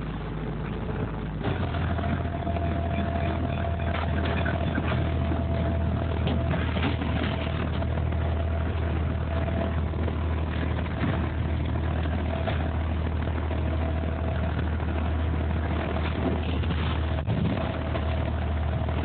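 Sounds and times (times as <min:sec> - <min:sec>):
boat engine humming: 0:00.0 - 0:19.0
faint steady whine: 0:00.0 - 0:19.0
water rushing against hull: 0:00.0 - 0:19.0.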